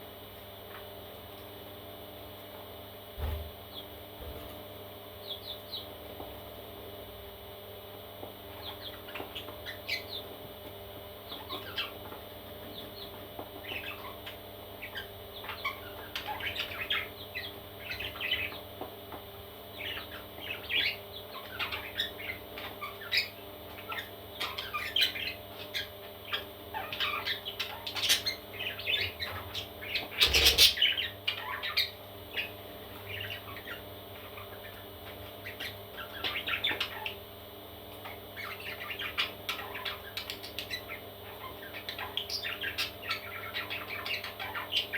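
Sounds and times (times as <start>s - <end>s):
parrot chicks chirping and squawking: 3.2s - 7.5s, 8.2s - 44.9s.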